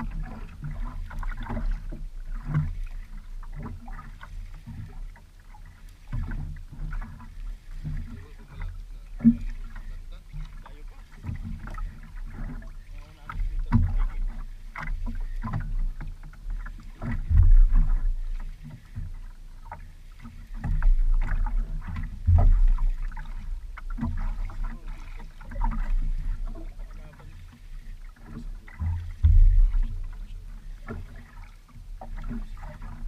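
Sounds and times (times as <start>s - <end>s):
small splashes and knocks: 0.0s - 33.0s
water lapping against a canoe hull: 0.0s - 33.0s.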